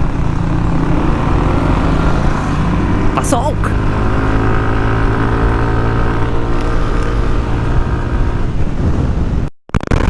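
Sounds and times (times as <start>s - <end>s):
scooter engine cruising: 0.0s - 9.0s
wind rumble on microphone: 0.0s - 10.0s.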